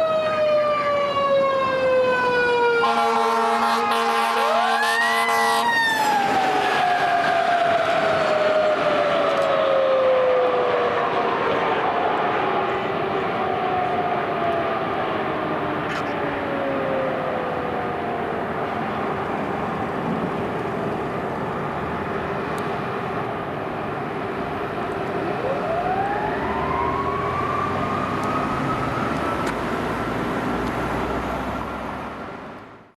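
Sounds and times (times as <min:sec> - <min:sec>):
fire truck siren wailing: 0:00.0 - 0:32.6
traffic and engine noise: 0:00.0 - 0:32.9.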